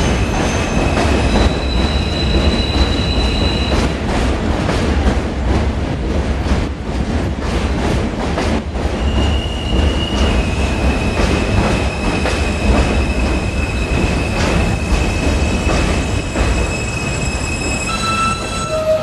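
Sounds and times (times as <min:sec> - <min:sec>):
subway train rumble: 0:00.0 - 0:19.0.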